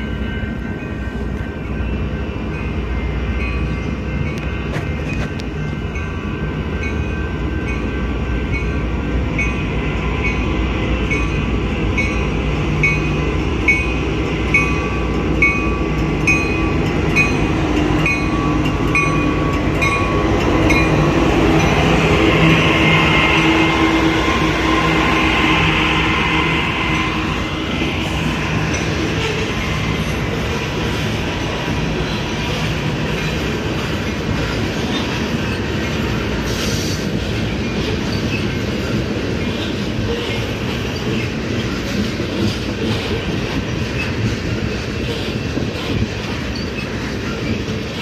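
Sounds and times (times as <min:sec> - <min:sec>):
diesel locomotive rumble: 0:00.0 - 0:48.0.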